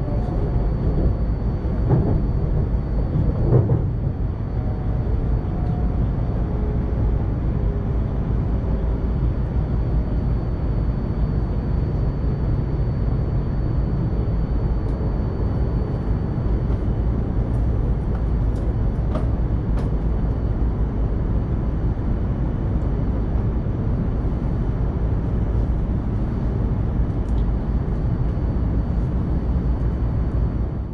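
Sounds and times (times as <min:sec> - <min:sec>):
train running noise inside cabin: 0:00.0 - 0:30.9.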